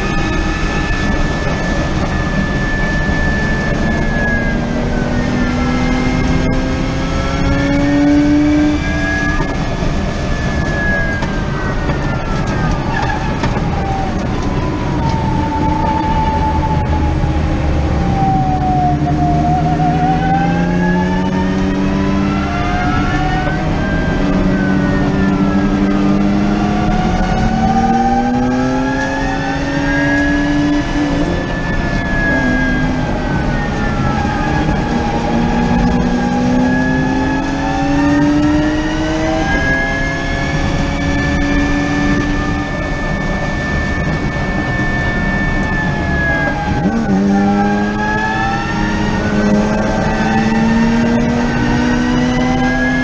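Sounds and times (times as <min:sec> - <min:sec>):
electric drivetrain whining: 0:00.0 - 0:53.0
wind and road noise: 0:00.0 - 0:53.0.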